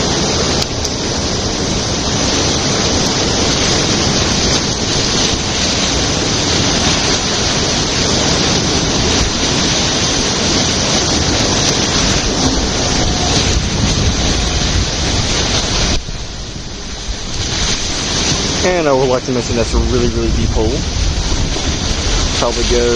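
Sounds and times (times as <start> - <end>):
whirlpool water roaring: 0.0 - 22.9.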